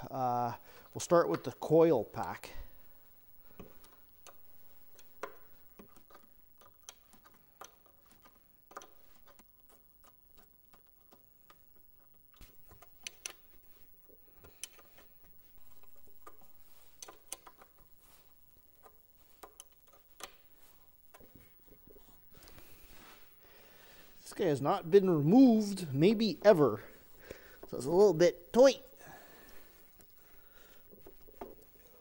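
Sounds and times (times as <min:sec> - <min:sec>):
wires being handled: 0:00.0 - 0:32.0.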